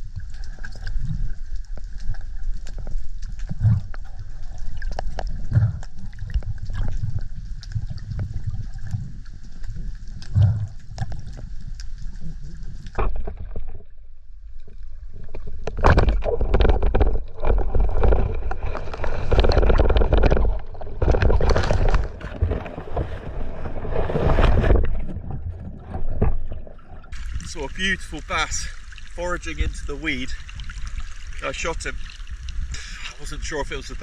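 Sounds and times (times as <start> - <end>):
rushing bubbling underwater noise: 0.0 - 34.0.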